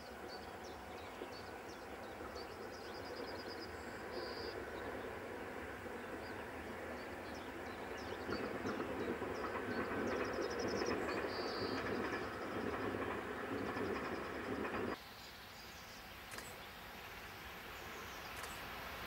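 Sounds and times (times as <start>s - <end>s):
distant train rumbling: 0.0s - 19.0s
outdoor ambience: 0.0s - 19.0s.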